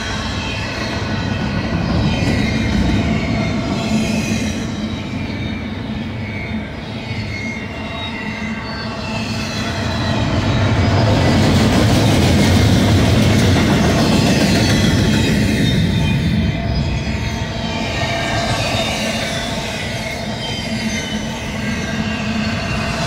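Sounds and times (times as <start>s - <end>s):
high squealing of train wheels: 0.0s - 23.0s
train wheels rumbling on rails: 0.0s - 23.0s.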